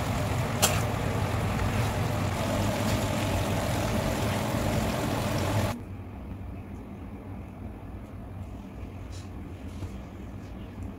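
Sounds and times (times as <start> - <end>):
low steady hum: 0.0 - 10.9.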